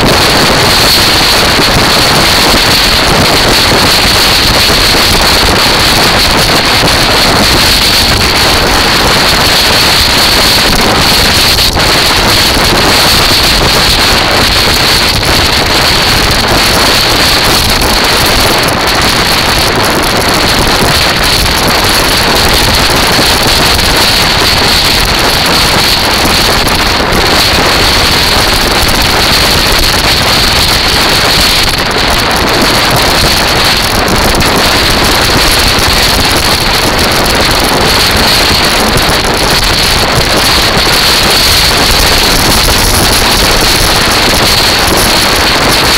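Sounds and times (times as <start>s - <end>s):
wheels rolling over sand: 0.0s - 45.9s
wind rush on microphone: 0.0s - 45.9s.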